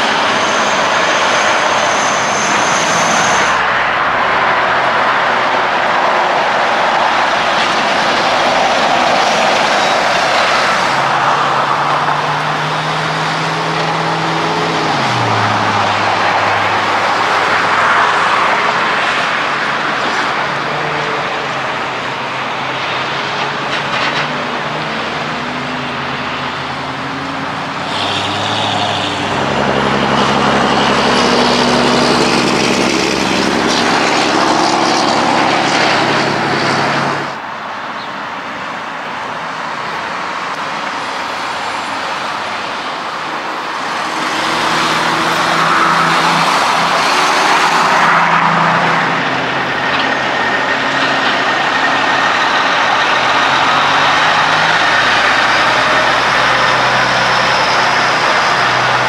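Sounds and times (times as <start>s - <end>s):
diesel truck approaching: 0.0s - 59.0s
highway traffic passing: 0.0s - 59.0s.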